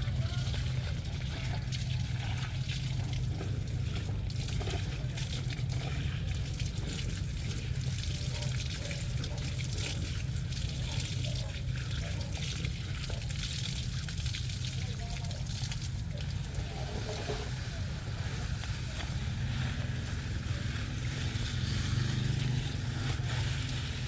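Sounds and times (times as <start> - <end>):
water running and trickling: 0.0 - 24.0.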